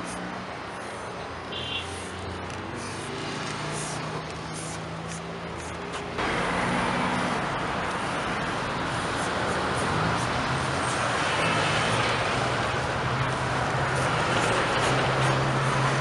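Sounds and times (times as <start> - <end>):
spray paint can hissing: 0.0 - 16.0
street traffic hum: 0.0 - 16.0.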